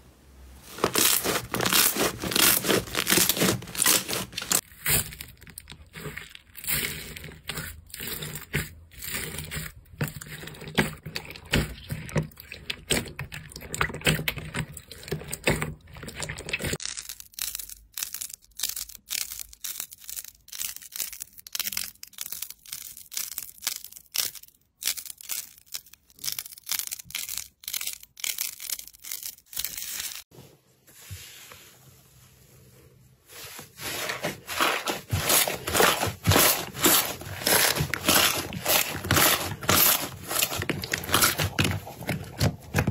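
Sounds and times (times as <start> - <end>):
slime crackling and squelching: 0.6 - 30.3, 33.3 - 42.9.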